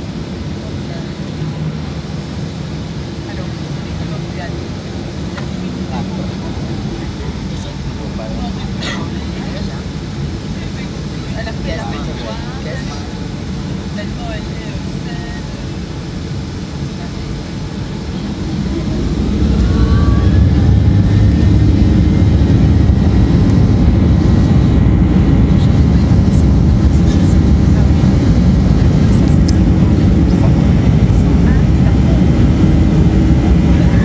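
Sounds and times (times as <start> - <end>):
jet engines rumbling in cabin: 0.0 - 34.0.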